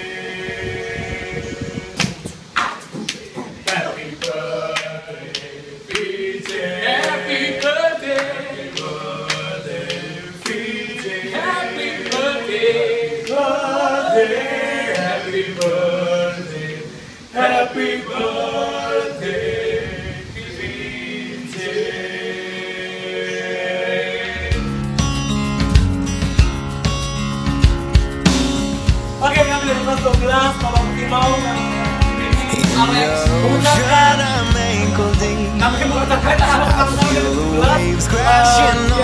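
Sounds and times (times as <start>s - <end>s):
male voices singing in harmony: 0.0s - 24.9s, 29.4s - 39.0s.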